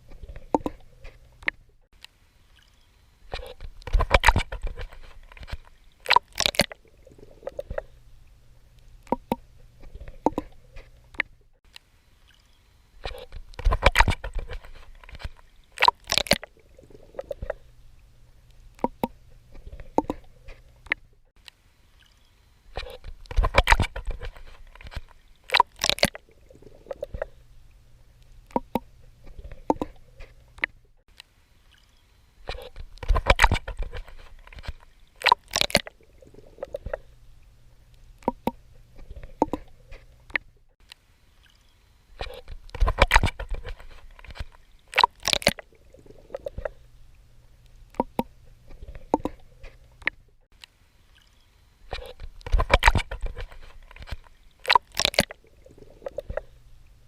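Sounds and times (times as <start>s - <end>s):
water gurgling and dripping: 0.0s - 1.9s, 2.5s - 11.6s, 12.2s - 21.3s, 22.0s - 31.0s, 31.7s - 40.8s, 41.4s - 50.4s, 51.1s - 57.0s.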